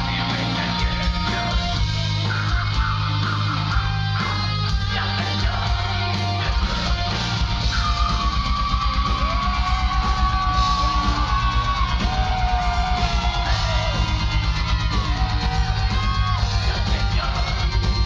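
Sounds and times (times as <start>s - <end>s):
distorted electric guitar: 0.0s - 18.0s
heavy metal band playing: 0.0s - 18.0s.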